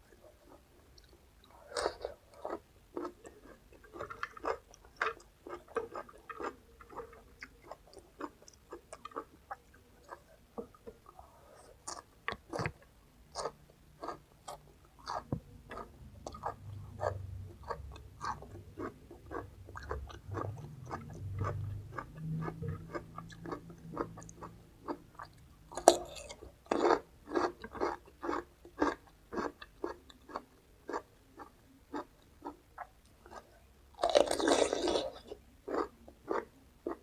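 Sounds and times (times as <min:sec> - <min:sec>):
crunchy chewing of raw vegetables: 0:00.4 - 0:37.0.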